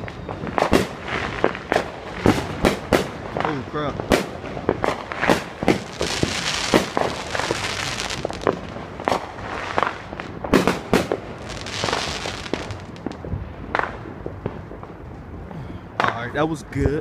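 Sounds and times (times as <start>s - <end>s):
fireworks bangs: 0.0s - 15.2s
fireworks crackling: 0.0s - 15.2s.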